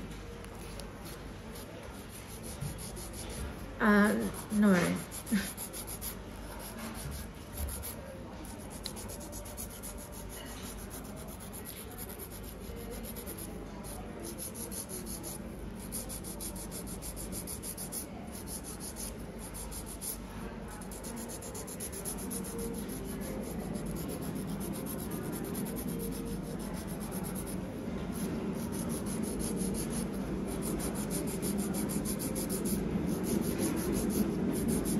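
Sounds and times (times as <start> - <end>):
nail file scratching fingernails: 0.6 - 34.9.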